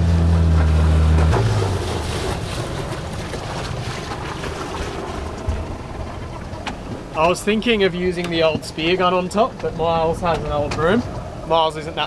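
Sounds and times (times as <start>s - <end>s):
steady low hum: 0.0s - 12.0s
water rushing along hull: 0.0s - 12.0s
wind buffeting microphone: 0.8s - 12.0s.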